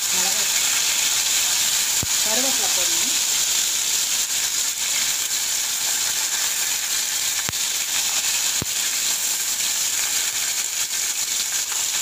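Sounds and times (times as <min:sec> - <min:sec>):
leaves sizzling in hot oil: 0:00.0 - 0:12.0.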